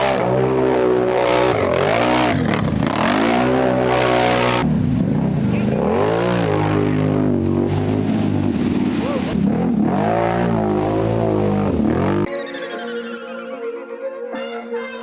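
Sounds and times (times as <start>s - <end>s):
atv engine revving: 0.0s - 12.3s.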